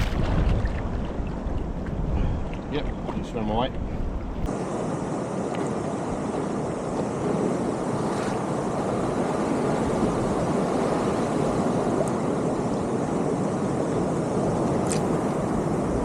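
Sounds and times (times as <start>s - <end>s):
sea water rushing: 0.0s - 16.0s
wind: 0.0s - 16.0s.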